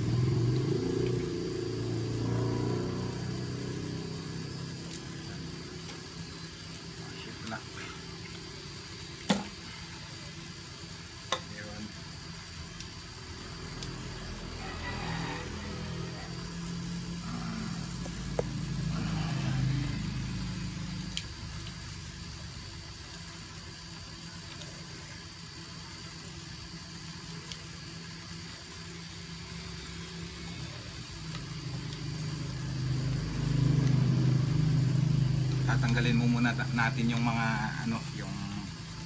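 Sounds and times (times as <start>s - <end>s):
vehicle engine idling: 0.0s - 22.8s, 29.0s - 39.0s.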